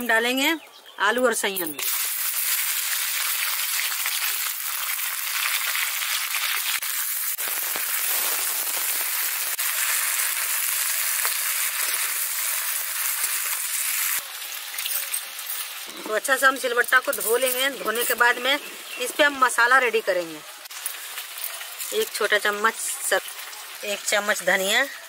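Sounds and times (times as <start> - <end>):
vegetables sizzling in hot oil: 1.8 - 25.0.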